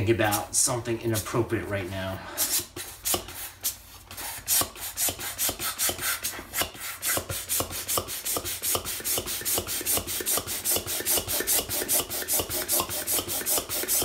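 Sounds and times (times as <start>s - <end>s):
hand air pump strokes: 2.4s - 14.0s.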